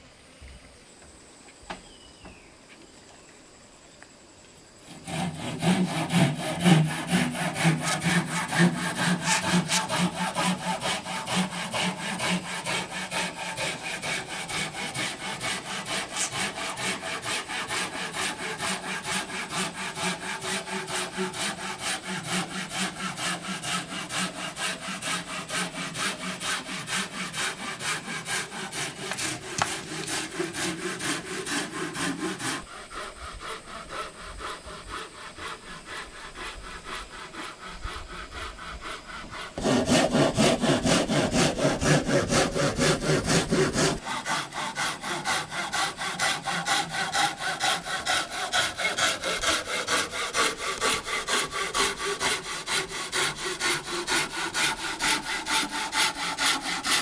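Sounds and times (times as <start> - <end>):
hand saw cutting wood: 4.8 - 57.0.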